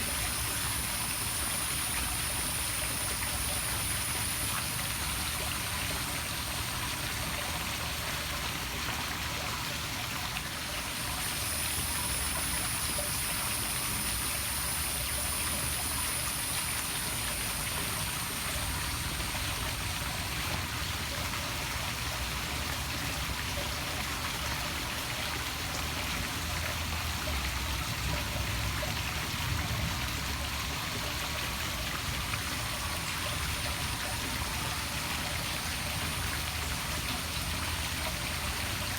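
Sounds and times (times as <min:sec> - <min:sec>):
waterfall splashing into pool: 0:00.0 - 0:38.9.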